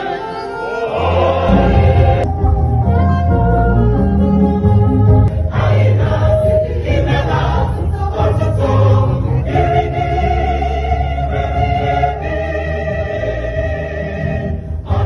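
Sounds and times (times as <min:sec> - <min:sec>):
choir singing a hymn in harmony: 0:00.0 - 0:15.0.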